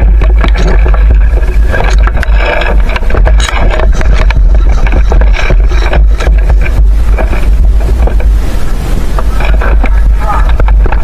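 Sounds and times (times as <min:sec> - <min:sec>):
gear scrapes and clicks: 0:00.0 - 0:11.0
microphone handling noise: 0:00.0 - 0:11.0
wind rumble on microphone: 0:00.0 - 0:11.0.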